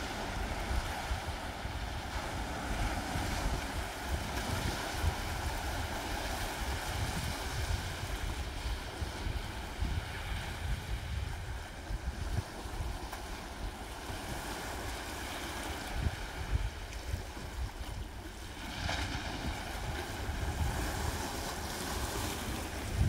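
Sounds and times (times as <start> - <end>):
waves lapping on rocks: 0.0 - 23.0
wind rumble on microphone: 0.0 - 23.0.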